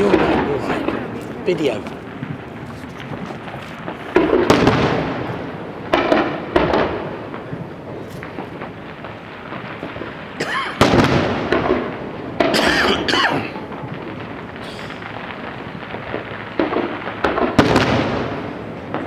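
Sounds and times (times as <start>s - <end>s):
fireworks bangs with echo: 0.0s - 19.0s.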